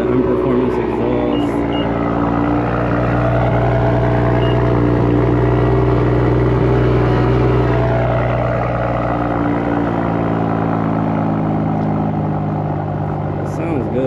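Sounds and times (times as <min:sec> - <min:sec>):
car engine deep exhaust note: 0:00.0 - 0:14.0.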